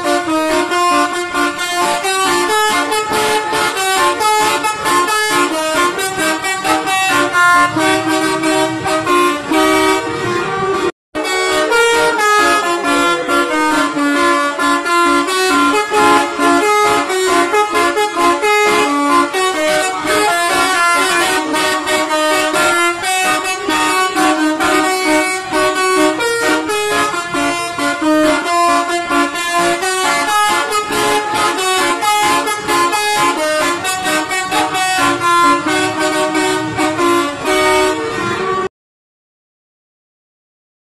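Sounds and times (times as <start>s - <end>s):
multi-tone air horn melody: 0.0s - 38.7s.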